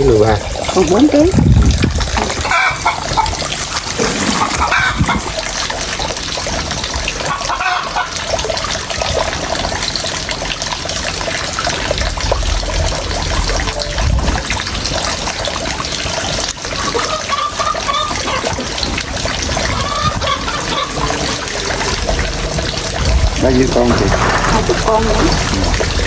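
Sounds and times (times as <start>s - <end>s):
water trickling and splashing: 0.0s - 26.0s.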